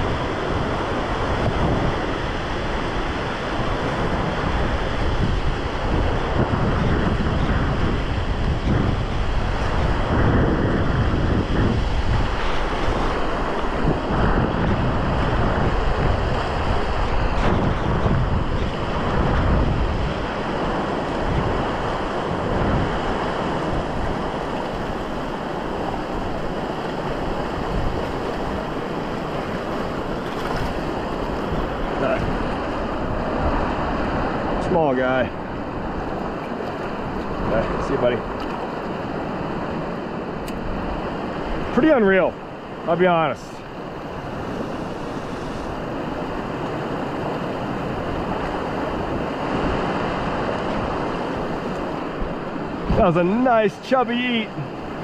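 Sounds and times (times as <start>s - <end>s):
river rapids rushing: 0.0s - 55.0s
wind buffeting microphone: 0.0s - 55.0s.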